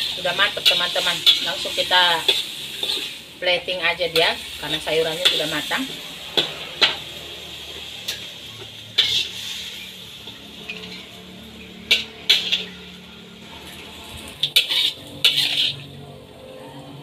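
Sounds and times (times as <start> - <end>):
metal spatula scraping a wok: 0.0 - 17.0.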